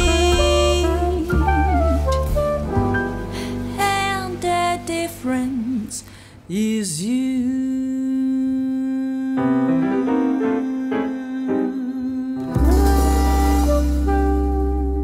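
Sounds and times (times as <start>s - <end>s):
piano chords: 0.0s - 5.9s, 8.6s - 15.0s
woman singing jazz: 0.0s - 15.0s.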